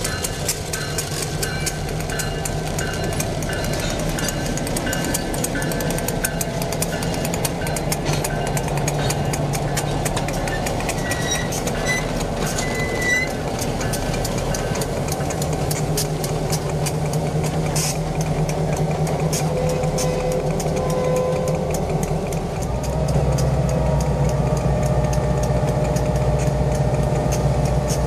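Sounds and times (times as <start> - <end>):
diesel locomotive engine drone: 0.0 - 28.0
train wheels clicking: 0.0 - 28.0.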